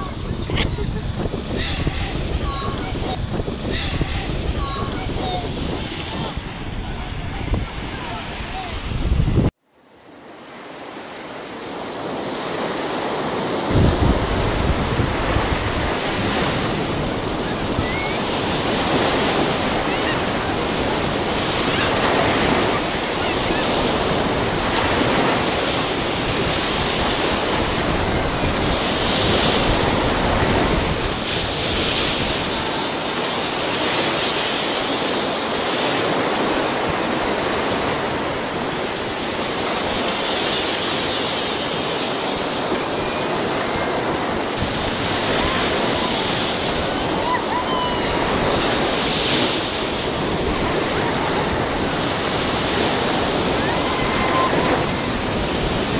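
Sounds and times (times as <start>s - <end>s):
wind on microphone: 0.0s - 9.6s, 11.4s - 55.9s
surf breaking: 10.8s - 55.9s.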